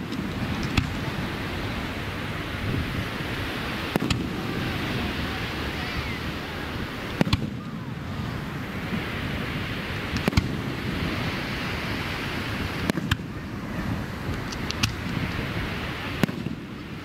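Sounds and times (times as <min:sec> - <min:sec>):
fireworks crackling: 0:00.0 - 0:17.0
steady rushing background noise: 0:00.0 - 0:17.0
fireworks bangs: 0:03.0 - 0:17.0.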